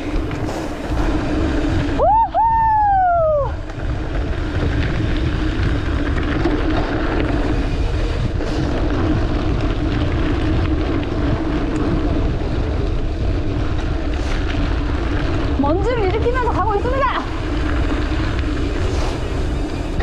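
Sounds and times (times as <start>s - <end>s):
bike tyres rolling on dirt: 0.0s - 20.0s
wind buffeting microphone: 0.0s - 20.0s.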